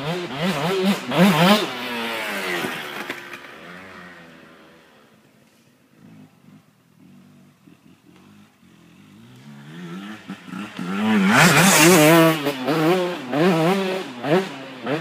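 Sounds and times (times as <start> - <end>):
dirt bike engine revving: 0.0 - 5.0, 5.9 - 15.0.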